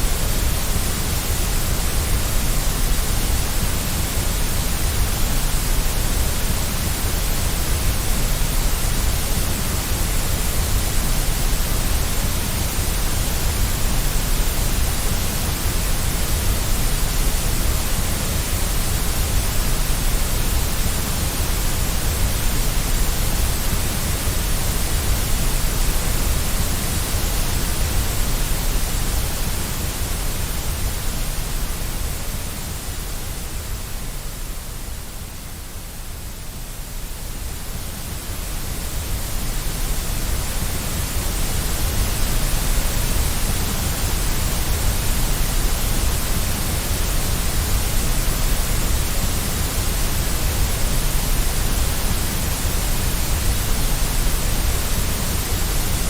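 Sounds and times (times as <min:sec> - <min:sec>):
white noise hiss with low rumble: 0:00.0 - 0:56.0.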